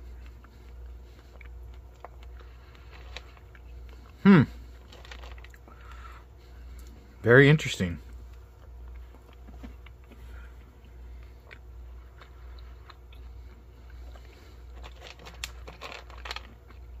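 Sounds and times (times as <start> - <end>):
crunching of dried fruit being chewed: 0.0 - 7.1, 8.0 - 17.0
fingers rustling through dry fruit: 0.0 - 7.1, 8.1 - 17.0
low steady hum: 0.0 - 17.0.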